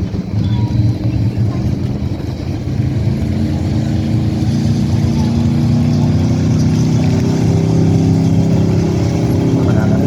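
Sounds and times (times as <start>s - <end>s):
pulling vehicle engine revving: 0.0s - 10.0s.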